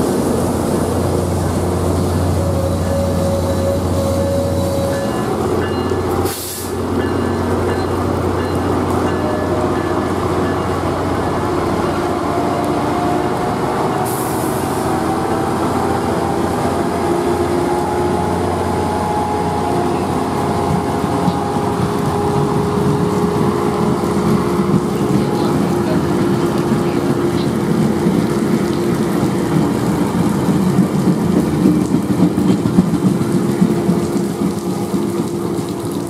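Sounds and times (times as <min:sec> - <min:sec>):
diesel train engine hum: 0:00.0 - 0:36.0
train whine rising in pitch: 0:00.0 - 0:36.0.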